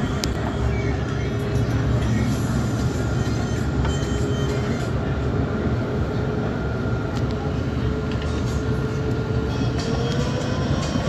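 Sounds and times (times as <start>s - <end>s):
tram rumbling on track: 0.0s - 11.0s.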